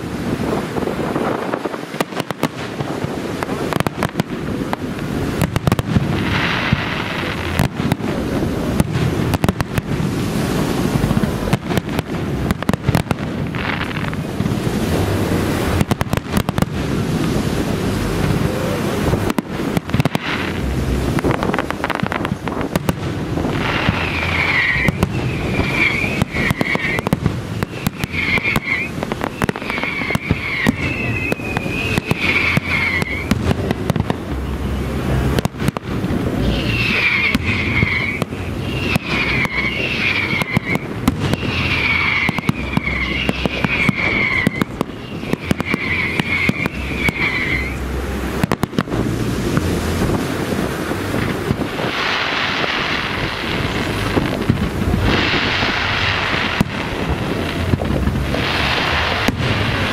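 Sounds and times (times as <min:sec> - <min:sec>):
fireworks bangs: 0:00.0 - 0:59.9
fireworks whistles: 0:00.0 - 0:59.9.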